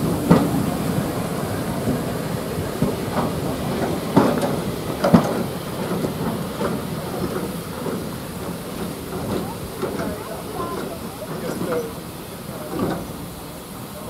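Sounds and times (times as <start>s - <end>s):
steady rolling rumble: 0.0s - 14.0s
steam hissing: 0.0s - 14.0s
train wheels knocking over rail joints: 0.0s - 14.0s.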